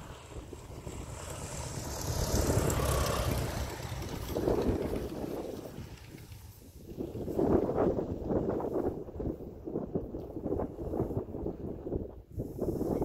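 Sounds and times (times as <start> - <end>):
light aircraft engine and propeller: 0.0 - 13.0.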